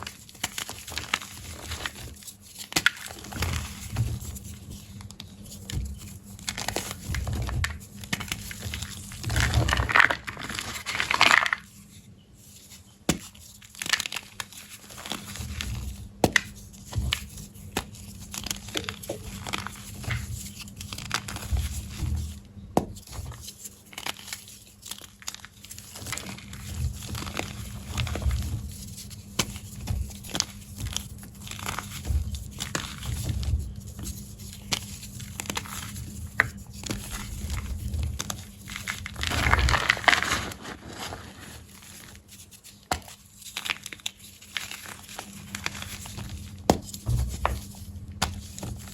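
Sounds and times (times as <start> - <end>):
chalk blocks crunching: 0.0 - 22.2, 22.8 - 48.9.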